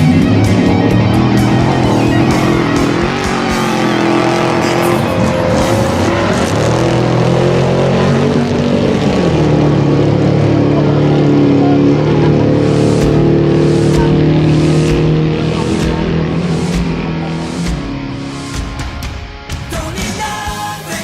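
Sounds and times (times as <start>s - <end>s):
music playing: 0.0s - 21.0s
truck engine running hard: 0.0s - 21.0s.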